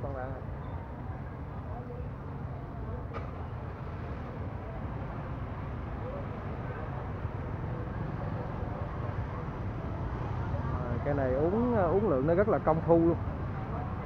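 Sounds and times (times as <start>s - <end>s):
faint distant voices: 0.0s - 14.0s
passing traffic rumble: 0.0s - 14.0s.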